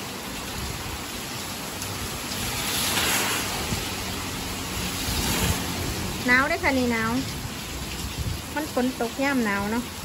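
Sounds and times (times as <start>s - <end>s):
rain on a wet street: 0.0s - 10.0s.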